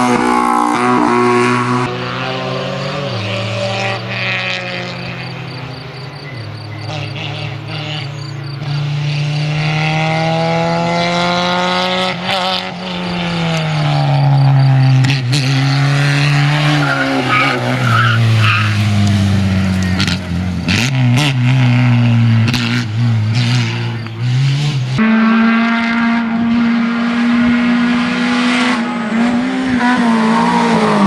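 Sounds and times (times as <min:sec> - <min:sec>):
race car engine accelerating: 0:00.0 - 0:31.0.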